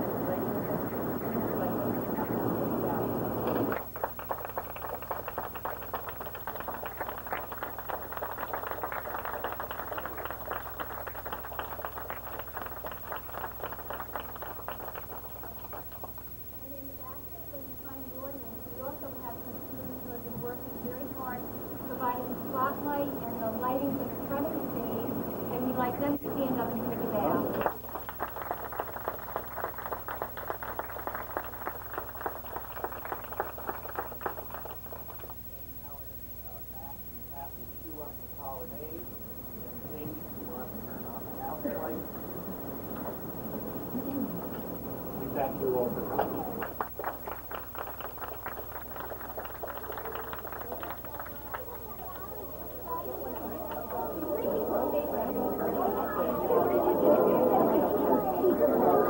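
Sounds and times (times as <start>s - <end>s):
audience applauding: 0.0s - 16.5s, 18.8s - 35.5s, 39.7s - 59.0s.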